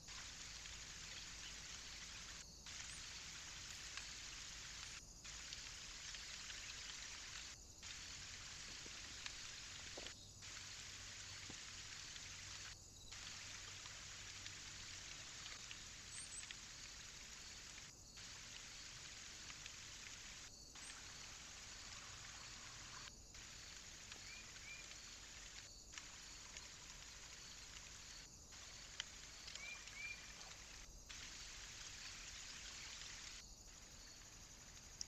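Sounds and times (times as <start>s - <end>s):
faint outdoor hiss: 0.0s - 35.0s
tiny ticks: 0.1s - 21.2s, 23.6s - 33.4s, 34.7s - 35.0s.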